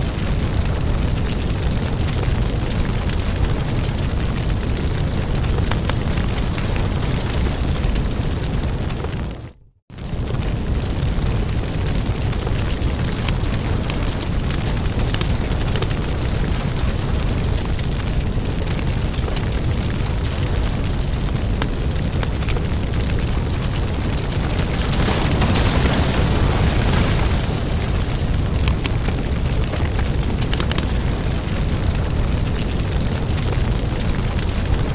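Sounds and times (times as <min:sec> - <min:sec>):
fire crackling and popping: 0:00.0 - 0:34.9.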